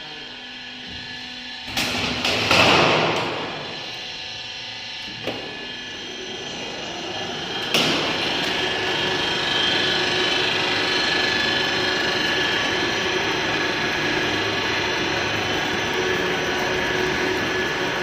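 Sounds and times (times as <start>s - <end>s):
machine whine: 0.0s - 18.0s
roll forming machine running: 1.1s - 18.0s.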